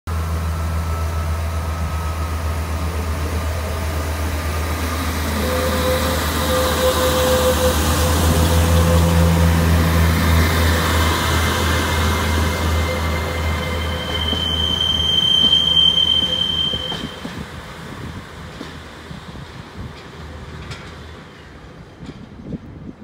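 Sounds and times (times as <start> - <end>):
diesel train engine drone: 0.1 - 23.0.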